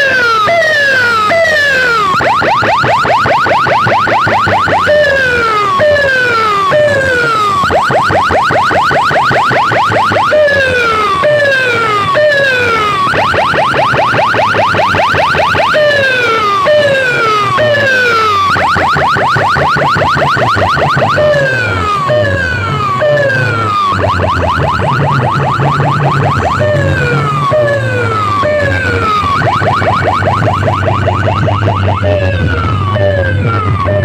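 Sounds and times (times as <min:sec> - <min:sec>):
electronic siren alarm: 0:00.0 - 0:34.0.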